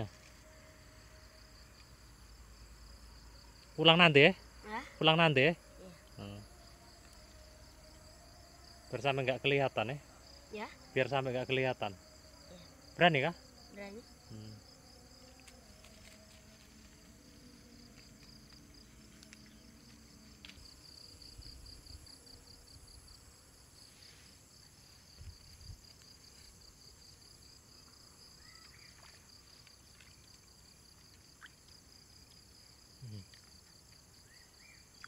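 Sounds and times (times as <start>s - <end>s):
insect chorus trilling: 0.0s - 35.0s.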